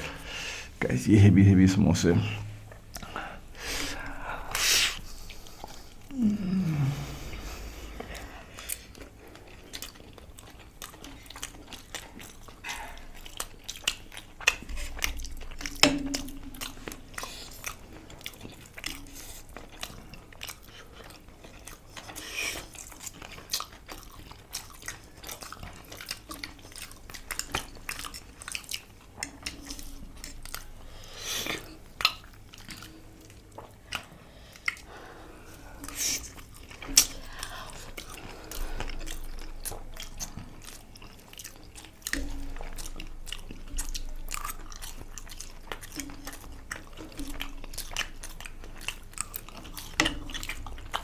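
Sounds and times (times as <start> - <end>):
chewing: 2.3 - 51.0.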